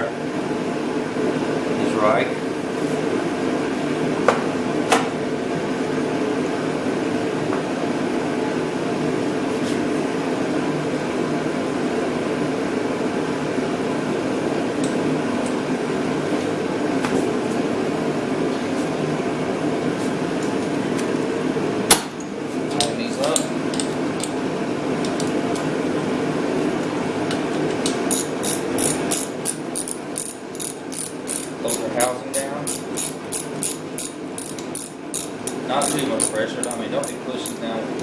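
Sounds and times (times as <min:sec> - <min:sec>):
ventilation unit humming: 0:00.0 - 0:38.0.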